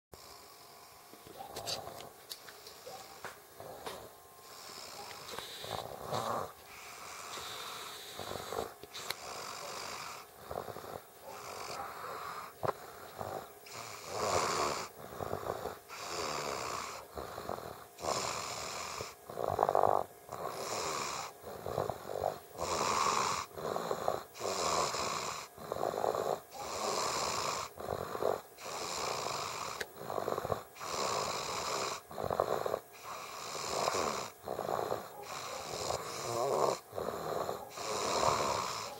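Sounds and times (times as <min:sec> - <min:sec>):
child snoring: 0:00.2 - 0:01.0, 0:02.7 - 0:38.9.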